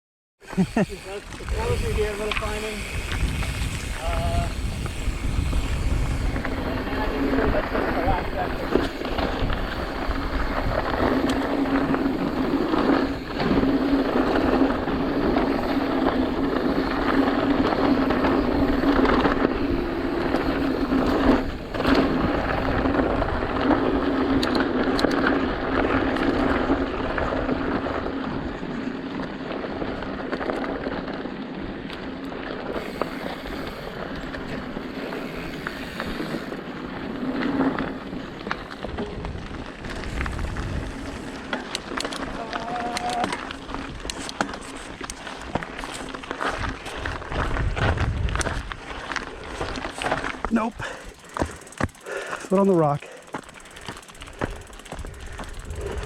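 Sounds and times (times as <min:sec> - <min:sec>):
bike rattling and clicking: 0:00.4 - 0:56.0
bike tyres rolling over dirt: 0:00.4 - 0:56.0.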